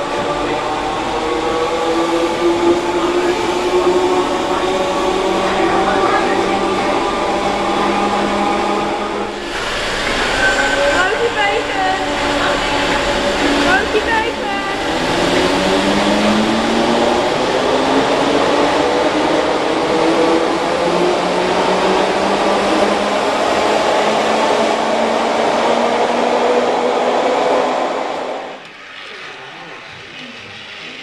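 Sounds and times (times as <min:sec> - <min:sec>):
electric train pulling out: 0:00.0 - 0:31.0.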